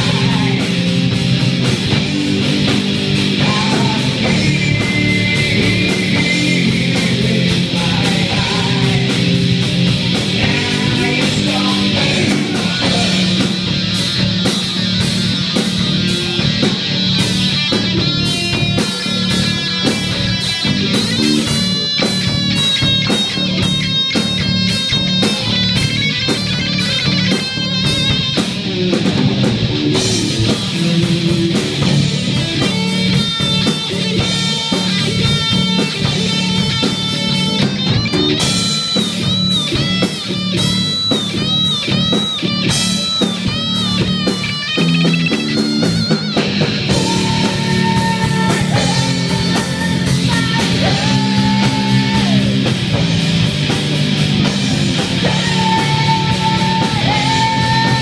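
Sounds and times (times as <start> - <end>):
electric guitar lead: 0.0 - 58.0
live rock band: 0.0 - 58.0.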